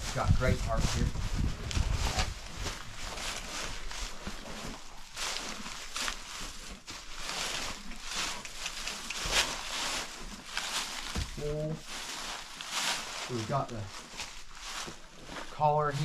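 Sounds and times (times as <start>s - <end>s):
footsteps rustling through straw: 0.0s - 16.0s
horse hooves shuffling through straw: 0.0s - 16.0s.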